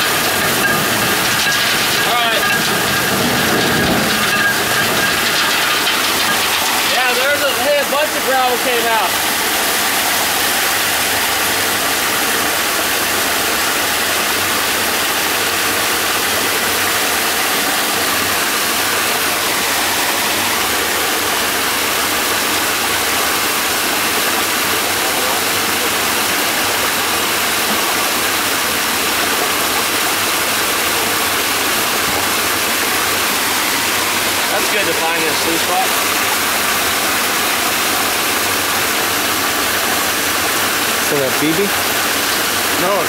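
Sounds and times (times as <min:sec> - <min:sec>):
machinery running: 0:00.0 - 0:43.0
water spraying from a drum: 0:00.0 - 0:43.0.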